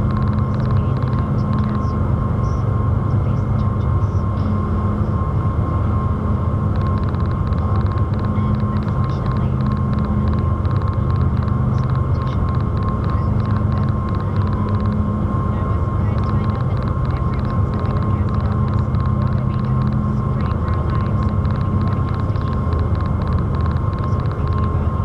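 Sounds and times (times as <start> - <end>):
ferry engine drone: 0.0 - 25.0
thin steady whine: 0.0 - 25.0.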